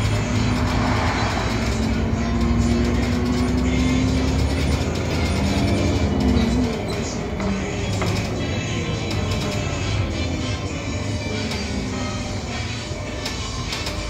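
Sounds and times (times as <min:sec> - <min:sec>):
bus engine drone with whine: 0:00.0 - 0:14.0.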